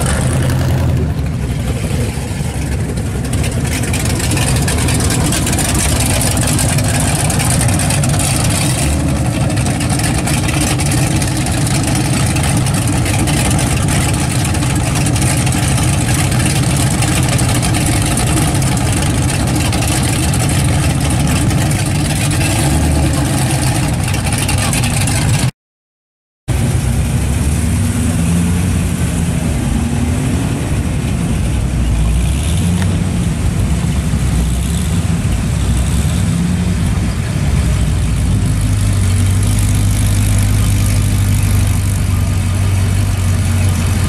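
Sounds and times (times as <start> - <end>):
car engine idling: 0.0 - 25.5, 26.5 - 44.0
car engine rumbling past: 0.0 - 25.5, 26.5 - 44.0.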